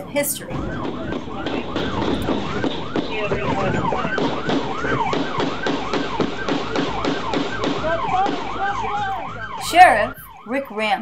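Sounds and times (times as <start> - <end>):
police siren yelping: 0.0 - 11.0.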